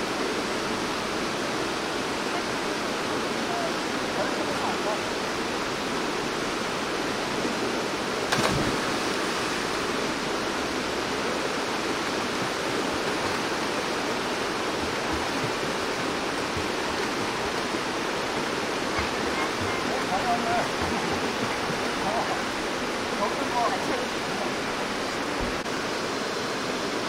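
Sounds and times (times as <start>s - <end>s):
stream rapids rushing: 0.0s - 27.0s.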